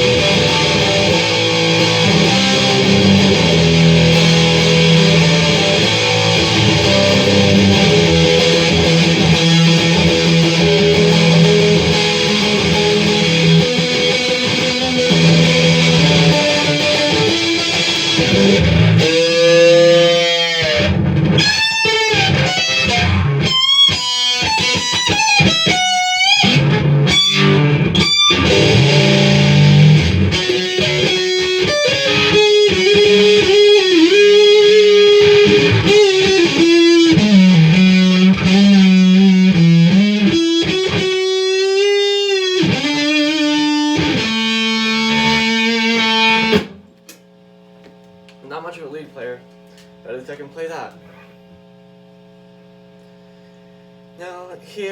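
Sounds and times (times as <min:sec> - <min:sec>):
distorted electric guitar: 0:00.0 - 0:47.2.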